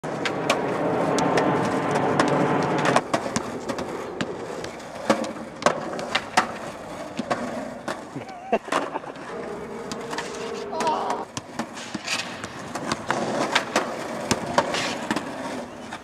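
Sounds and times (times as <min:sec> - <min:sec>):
skateboard clacking on ground: 0:00.0 - 0:16.0
skateboard wheels rumbling on concrete: 0:00.0 - 0:16.0.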